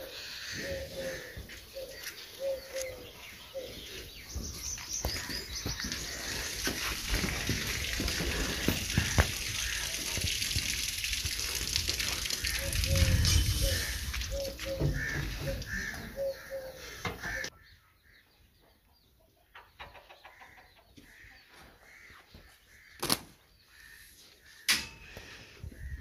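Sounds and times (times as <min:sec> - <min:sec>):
birds chirping: 0:00.0 - 0:10.3, 0:12.3 - 0:26.0.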